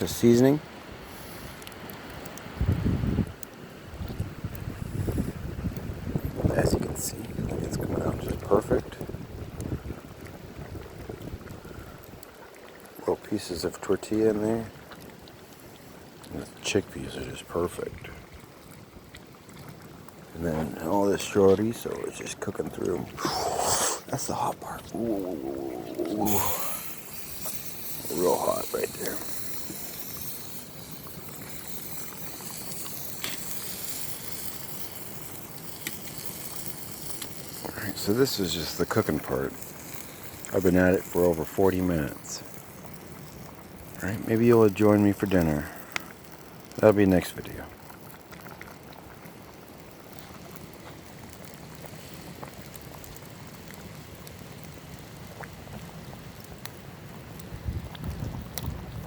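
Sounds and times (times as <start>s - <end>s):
soup simmering and bubbling: 0.2s - 59.0s.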